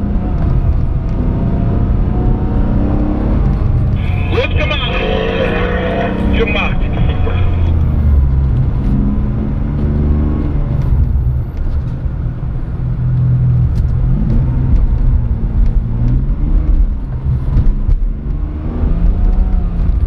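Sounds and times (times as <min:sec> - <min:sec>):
car engine: 0:00.0 - 0:20.0
road noise inside car: 0:00.0 - 0:20.0.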